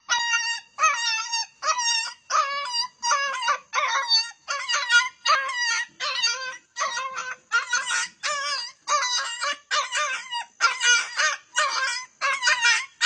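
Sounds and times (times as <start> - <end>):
puppy whining howls: 0.0 - 13.0.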